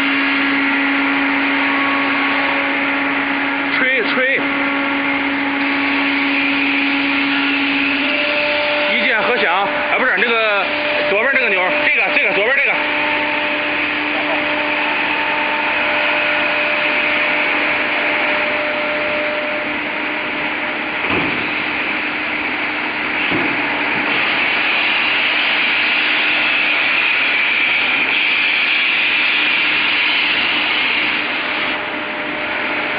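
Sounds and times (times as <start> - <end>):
machine hissing: 0.0 - 32.9.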